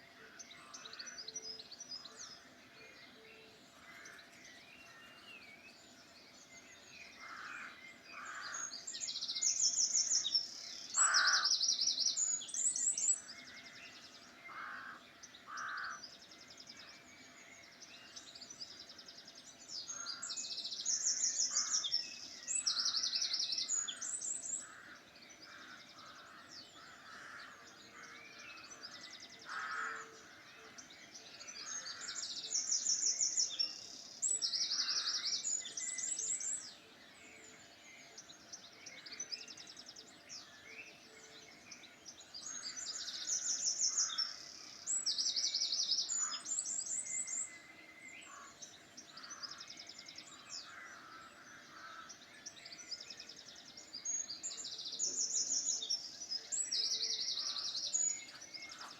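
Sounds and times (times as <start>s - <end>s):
soft bird chirps and calls: 0.0s - 58.9s.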